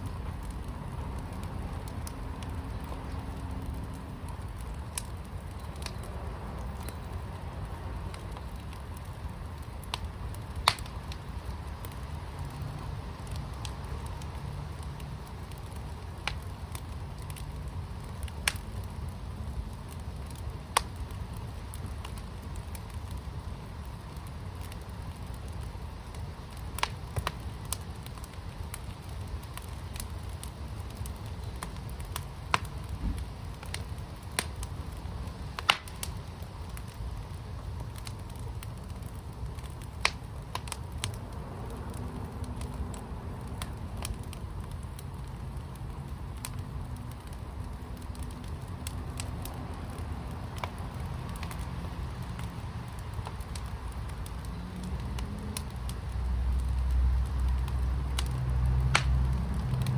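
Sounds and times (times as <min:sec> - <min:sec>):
fire pit burning rumble: 0:00.0 - 0:59.9
fire popping and crackling: 0:00.0 - 0:59.9.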